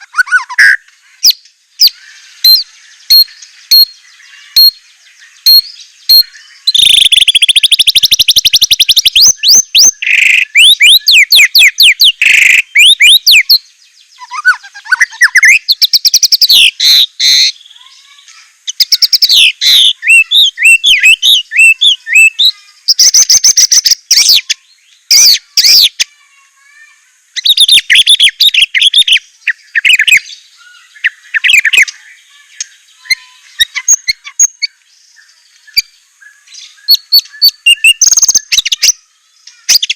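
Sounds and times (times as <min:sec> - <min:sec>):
songbird trilling and whistling: 0:00.0 - 0:39.9.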